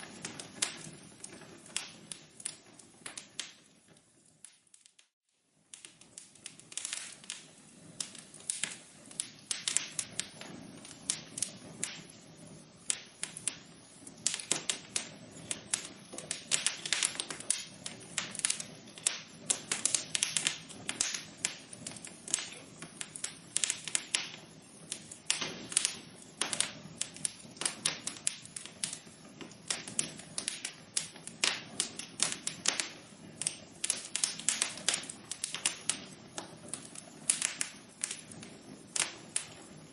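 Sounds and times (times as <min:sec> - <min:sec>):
low hiss of burning: 0:00.0 - 0:39.9
wood fire crackling: 0:00.0 - 0:39.9.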